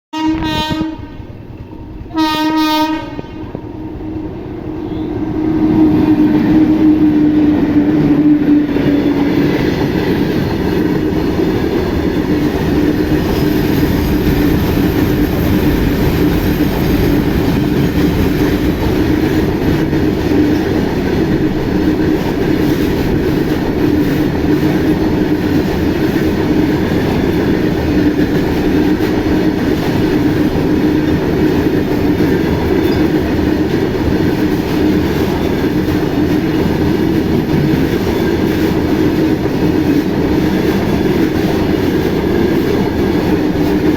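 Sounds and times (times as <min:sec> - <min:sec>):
freight train wagons on rails: 0:00.2 - 0:43.9.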